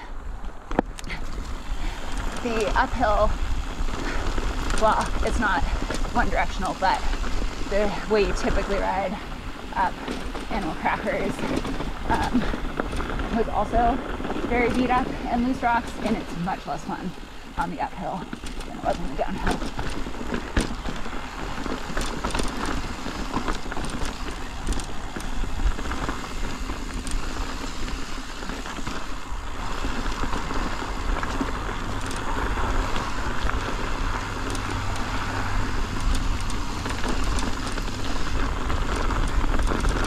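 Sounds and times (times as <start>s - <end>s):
bike clicks and rattles: 0.0s - 40.0s
bike tyre noise: 0.0s - 40.0s
wind rumble on microphone: 0.0s - 40.0s.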